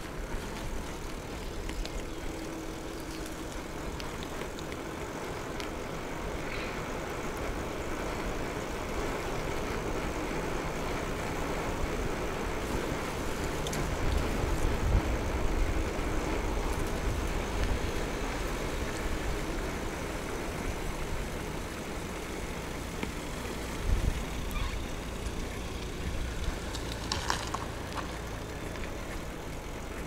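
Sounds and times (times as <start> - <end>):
road and traffic rumble: 0.0 - 30.0.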